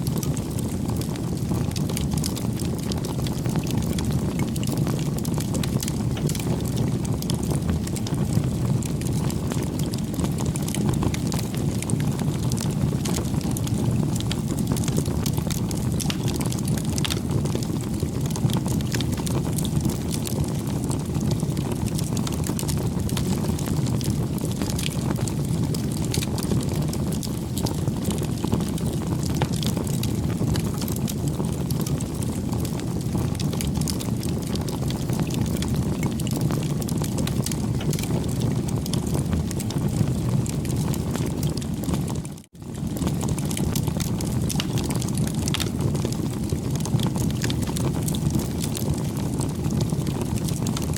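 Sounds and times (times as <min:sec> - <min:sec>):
fire crackles and pops: 0:00.0 - 0:50.9
campfire flame rushing: 0:00.1 - 0:50.9.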